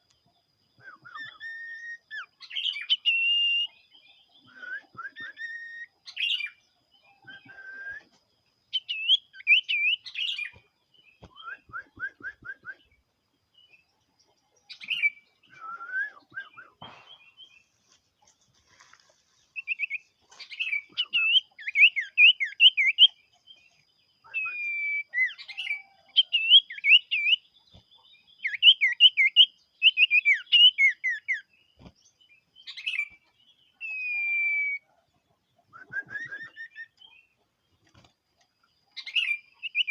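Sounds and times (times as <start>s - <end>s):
bird singing whistled notes: 0.8s - 13.0s, 14.6s - 17.7s, 19.5s - 31.6s, 32.2s - 35.0s, 35.6s - 37.3s, 38.9s - 39.9s.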